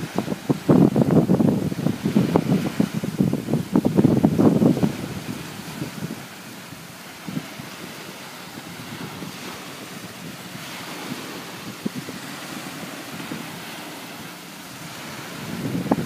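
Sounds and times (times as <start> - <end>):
small waves breaking on sand: 0.0 - 16.0
wind buffeting microphone: 0.0 - 16.0.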